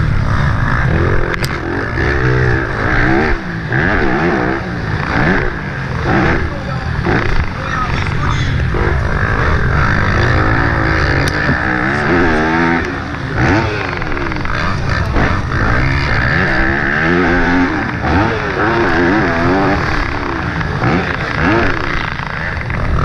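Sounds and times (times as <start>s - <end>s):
motocross engine revving: 0.0s - 23.0s.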